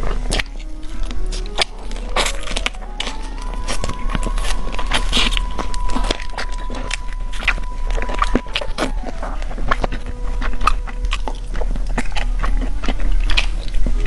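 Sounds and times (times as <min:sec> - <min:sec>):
crunchy chewing of fried food: 0:00.0 - 0:14.0.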